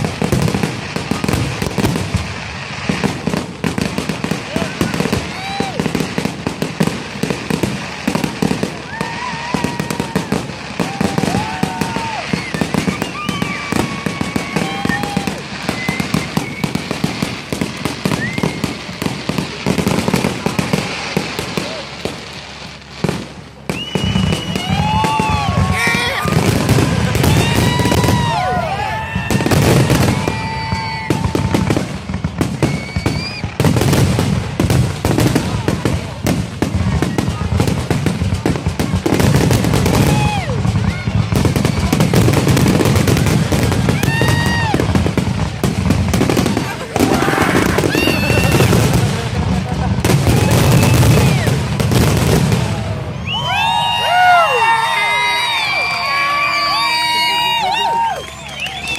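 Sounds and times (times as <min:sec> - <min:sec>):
fireworks bangs and crackling: 0:00.0 - 0:58.9
fireworks whistling: 0:00.0 - 0:58.9.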